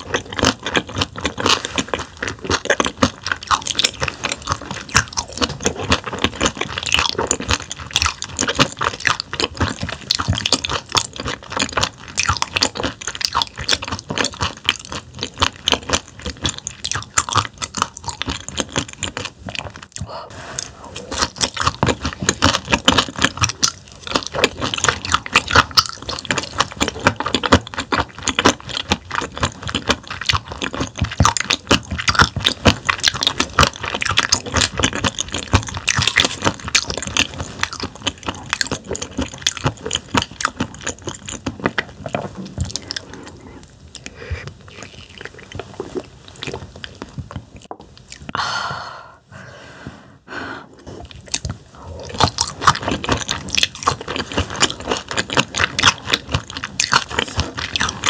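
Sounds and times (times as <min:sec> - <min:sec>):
crunching raw fish bones: 0:00.0 - 0:48.4, 0:51.1 - 0:58.0.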